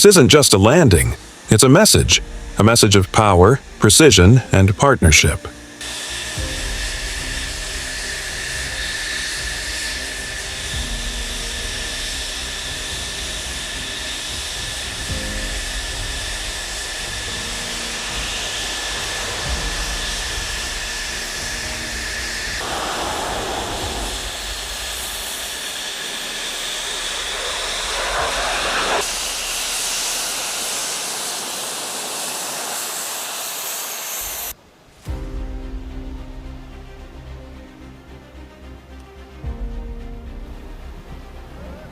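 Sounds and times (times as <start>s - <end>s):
fighter jet engine hissing: 0.0s - 35.2s.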